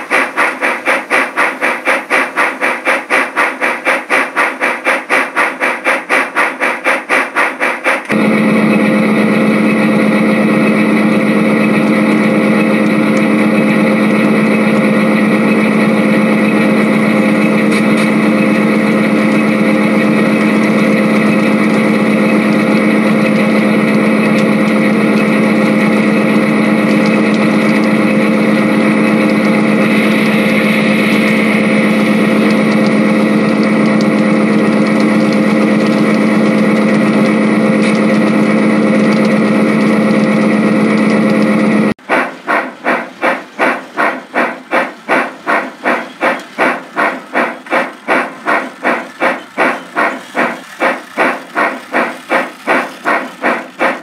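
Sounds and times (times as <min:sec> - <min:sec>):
model train humming: 0:00.0 - 0:54.0.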